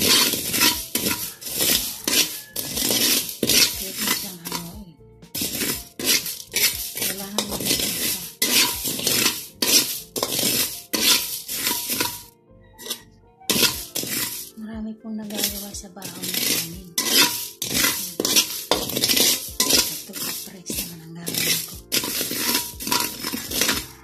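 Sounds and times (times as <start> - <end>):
metal spatula scraping wok: 0.0 - 24.0.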